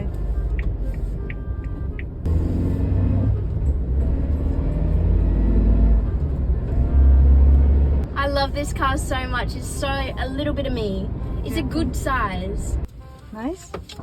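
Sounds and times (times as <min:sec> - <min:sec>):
engine and road rumble in cabin: 0:00.0 - 0:14.0.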